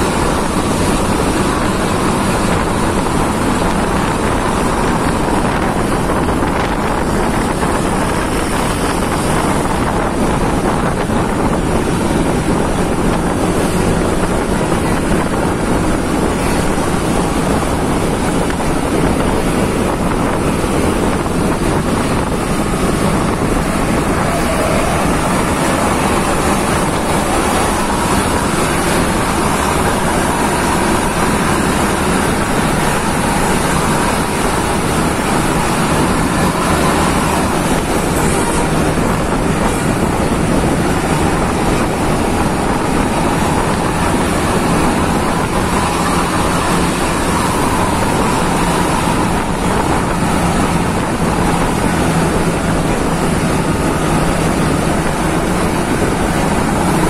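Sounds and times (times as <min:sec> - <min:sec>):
engine and road noise: 0:00.0 - 0:57.0
wind buffeting microphone: 0:00.0 - 0:57.0.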